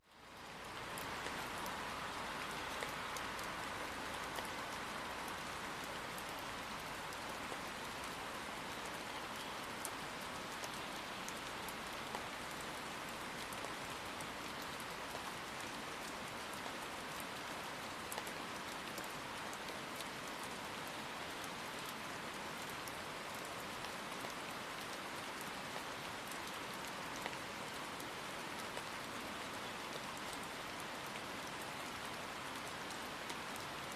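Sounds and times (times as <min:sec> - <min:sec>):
raindrops ticking close by: 0:00.0 - 0:33.9
steady rain hiss: 0:00.0 - 0:33.9.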